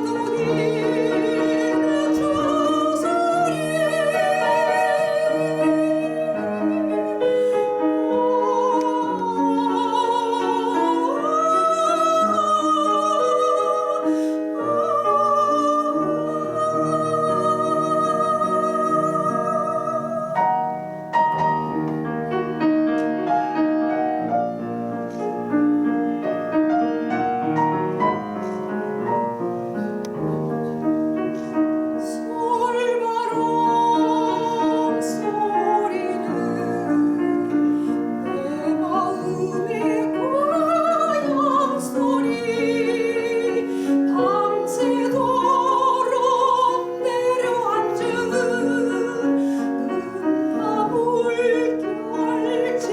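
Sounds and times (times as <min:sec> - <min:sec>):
soprano singing with vibrato: 0:00.0 - 0:21.7, 0:31.4 - 0:52.9
piano accompaniment: 0:00.0 - 0:52.9.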